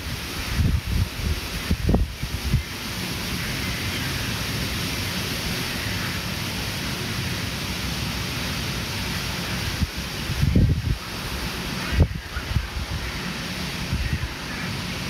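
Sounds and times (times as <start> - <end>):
wind rushing: 0.0 - 15.0.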